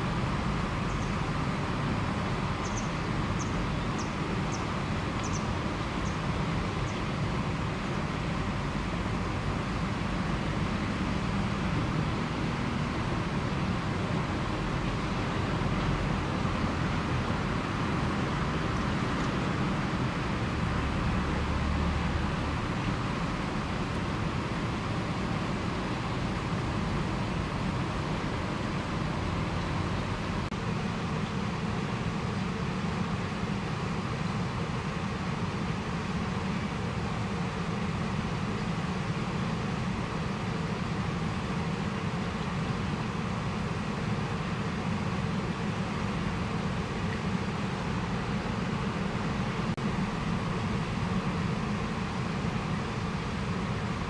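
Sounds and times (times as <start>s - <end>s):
low rumble and hiss: 0.0s - 54.0s.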